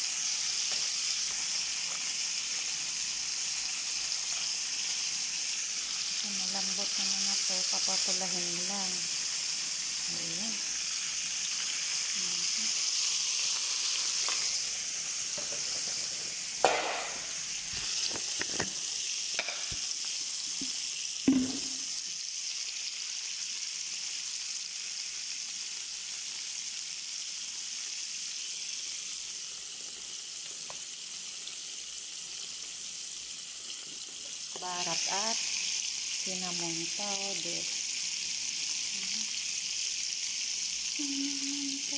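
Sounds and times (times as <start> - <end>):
meat sizzling in a frying pan: 0.0 - 41.9.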